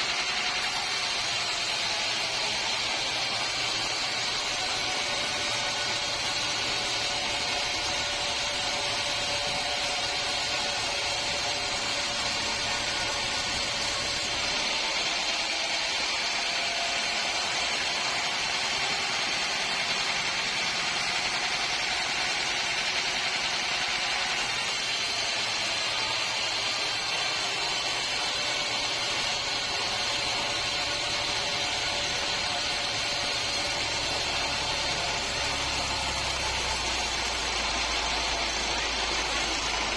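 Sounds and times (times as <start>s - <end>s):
saw whine: 0.0s - 39.9s.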